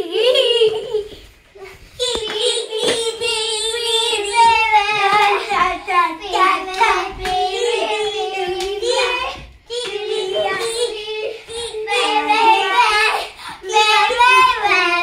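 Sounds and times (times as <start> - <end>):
child singing in a high voice: 2.0 - 15.0.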